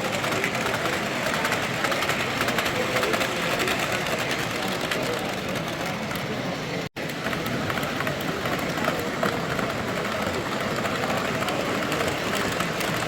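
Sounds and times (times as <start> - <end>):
indistinct crowd chatter: 0.0 - 13.0
model trains running: 0.0 - 13.0.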